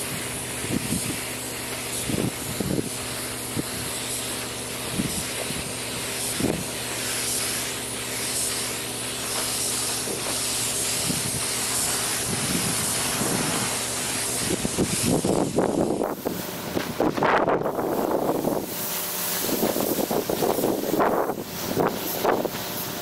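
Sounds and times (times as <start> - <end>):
paint spray gun hissing: 0.0 - 23.0
steady low hum: 0.0 - 23.0.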